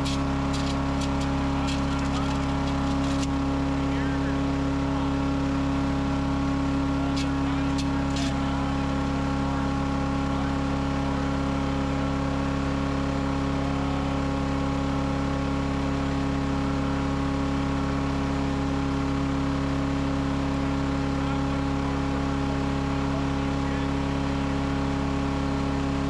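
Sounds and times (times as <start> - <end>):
small gas engine running: 0.0 - 26.0.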